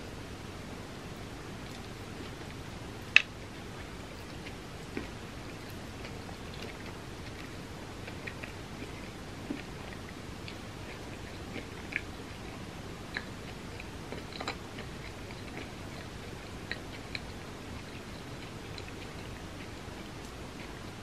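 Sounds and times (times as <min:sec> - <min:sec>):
mouth clicks and smacks chewing: 0:01.6 - 0:21.0.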